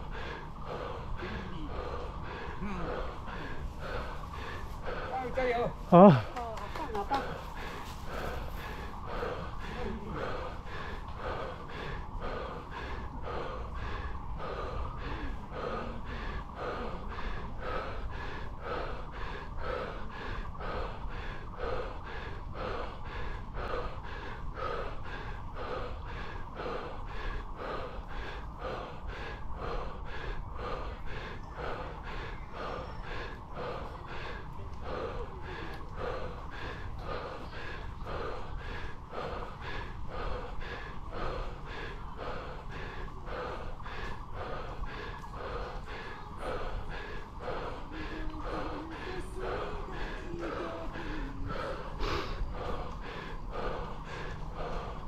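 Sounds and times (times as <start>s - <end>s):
person panting hard: 0.0s - 55.0s
steady low rumble: 0.0s - 55.0s.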